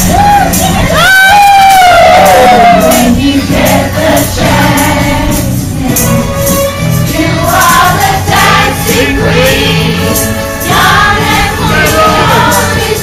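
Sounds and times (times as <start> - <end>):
rhythmic musical accompaniment: 0.0 - 13.0
women singing together: 1.8 - 13.0.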